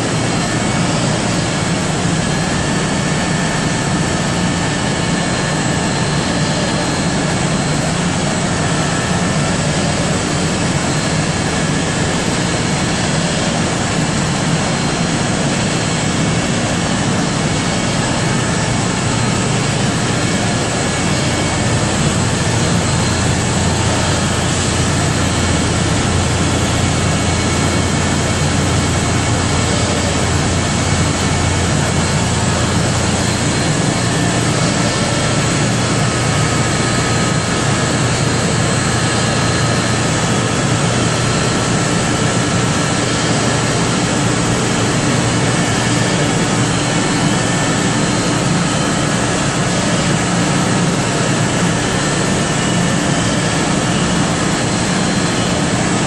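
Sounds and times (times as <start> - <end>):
boiler machinery rushing noise: 0.0 - 56.0.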